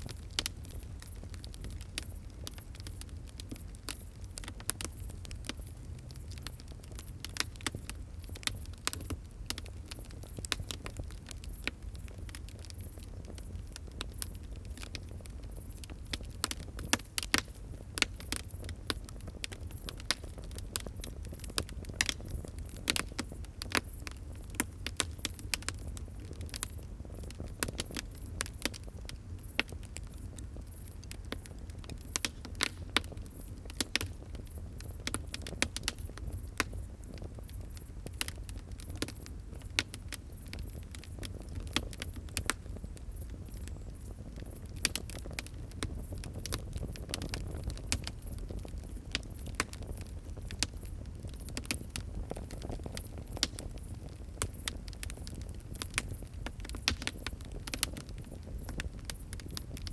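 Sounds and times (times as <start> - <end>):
fire crackling and popping: 0.0 - 59.9
wood fire rumbling: 0.1 - 59.9.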